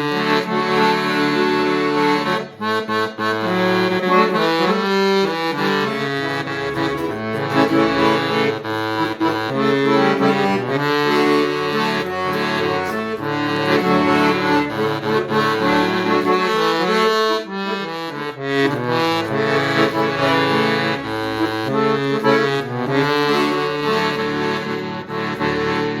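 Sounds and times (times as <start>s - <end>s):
held chords: 0.0s - 26.0s.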